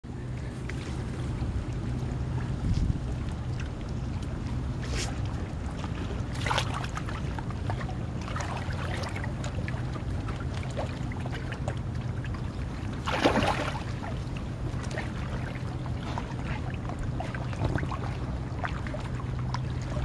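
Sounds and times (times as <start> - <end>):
steady low rumble: 0.0 - 20.0
shallow water splashing: 0.1 - 20.0.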